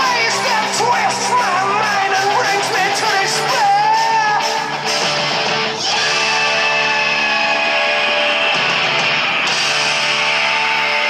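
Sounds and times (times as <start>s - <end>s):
heavy rock music: 0.0s - 11.0s.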